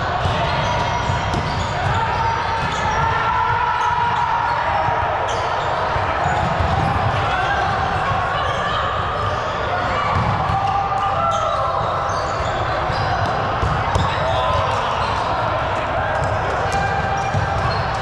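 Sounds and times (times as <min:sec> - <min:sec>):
players calling out: 0:00.0 - 0:18.0.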